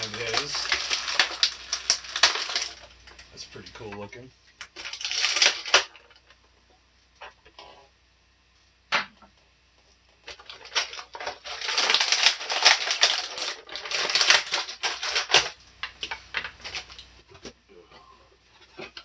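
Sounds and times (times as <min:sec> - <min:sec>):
hard plastic clicking and crinkling: 0:00.0 - 0:07.9, 0:09.0 - 0:19.0.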